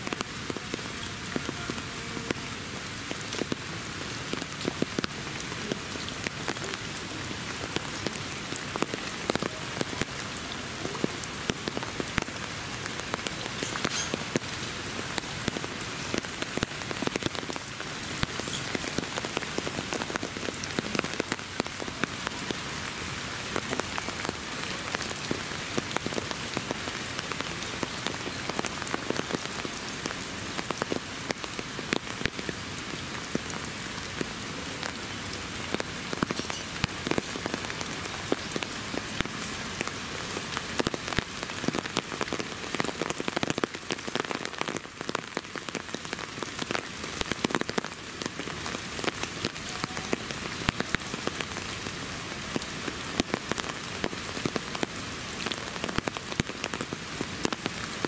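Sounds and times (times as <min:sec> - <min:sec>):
rain falling: 0:00.0 - 0:58.0
raindrops hitting close: 0:00.0 - 0:58.0.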